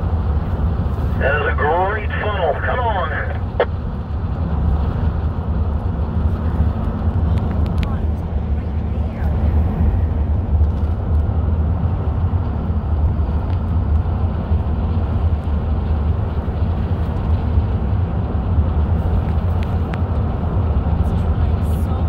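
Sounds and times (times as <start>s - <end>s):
road noise inside car: 0.0s - 22.0s.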